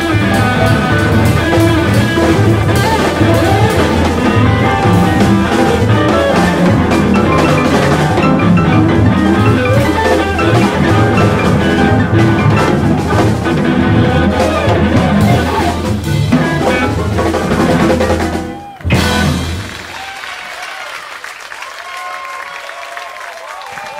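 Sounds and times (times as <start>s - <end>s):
jazz band playing blues: 0.0s - 20.1s.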